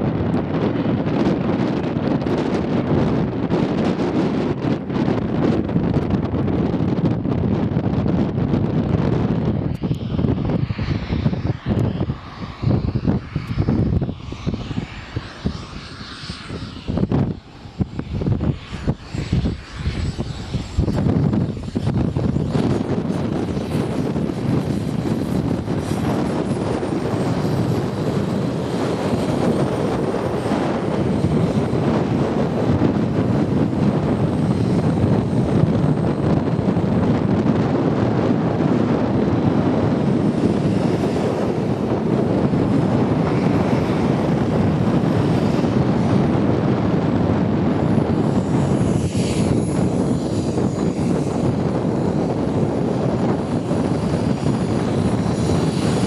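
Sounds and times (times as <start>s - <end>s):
model jet engines whining: 0.0s - 56.0s.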